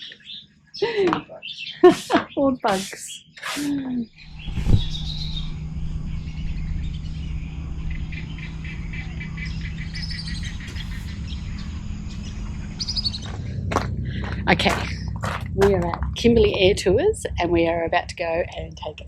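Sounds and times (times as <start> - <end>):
birds chirping: 0.0 - 18.2
steady low hum: 1.8 - 19.0.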